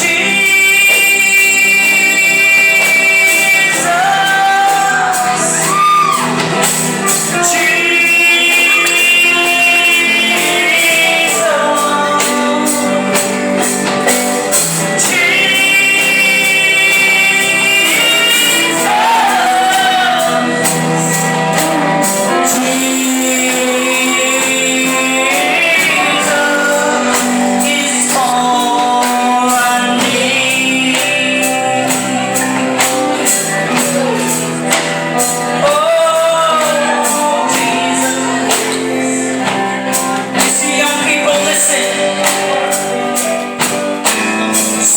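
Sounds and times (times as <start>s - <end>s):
band accompaniment: 0.0s - 44.9s
high percussion beat: 0.0s - 44.9s.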